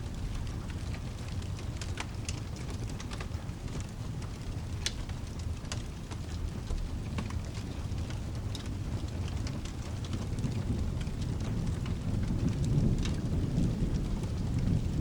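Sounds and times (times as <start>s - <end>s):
low continuous rumble: 0.0s - 15.0s
rain falling: 0.0s - 15.0s
wood fire crackling: 0.0s - 15.0s.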